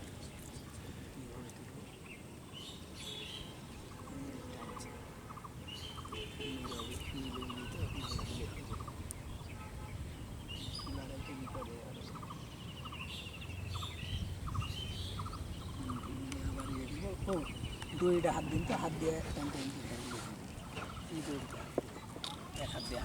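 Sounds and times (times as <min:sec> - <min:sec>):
birds chirping and trilling: 0:00.0 - 0:23.0
faint distant voices: 0:00.0 - 0:23.0.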